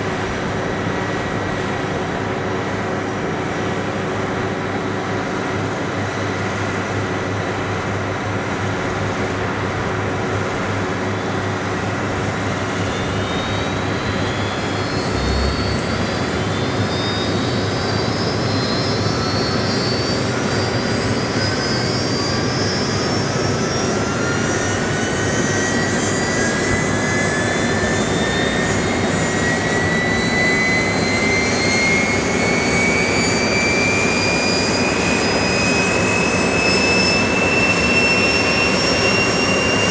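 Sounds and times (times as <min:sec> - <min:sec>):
jet engine running noise: 0:00.0 - 0:39.9
rising turbine whine: 0:00.0 - 0:39.9.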